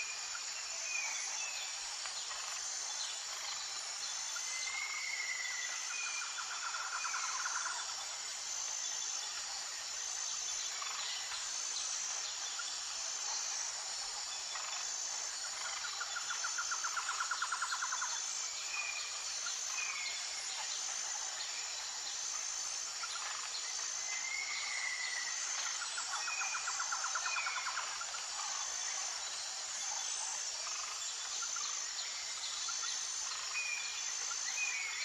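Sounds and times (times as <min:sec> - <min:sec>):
pulsing high insect tone: 0:00.0 - 0:35.0.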